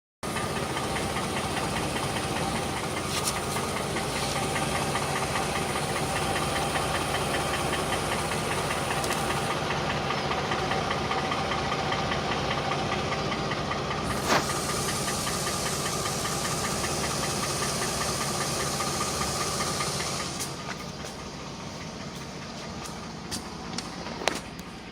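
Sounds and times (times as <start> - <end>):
engine running with knocking: 0.2 - 24.9.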